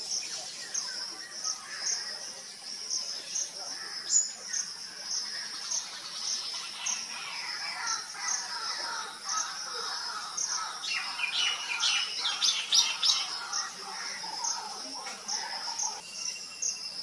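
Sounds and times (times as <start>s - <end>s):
forest birds calling: 0.0s - 17.0s.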